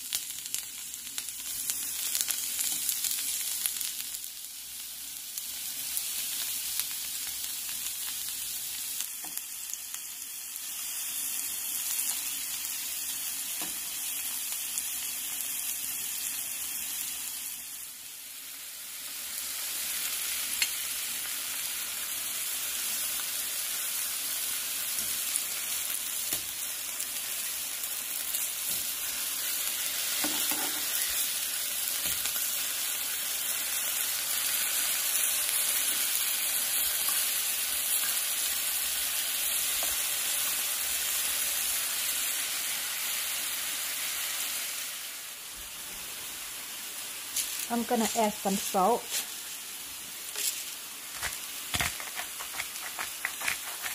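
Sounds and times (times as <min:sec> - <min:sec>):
mushrooms sizzling in a pan: 0:00.0 - 0:53.9.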